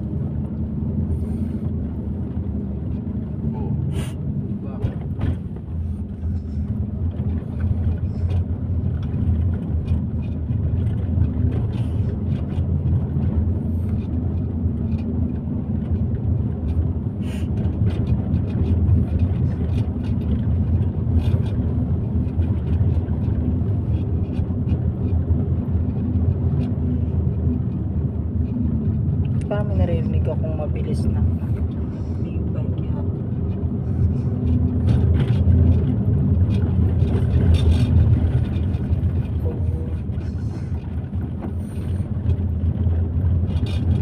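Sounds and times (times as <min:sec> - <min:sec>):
car engine and road rumble: 0:00.0 - 0:44.0.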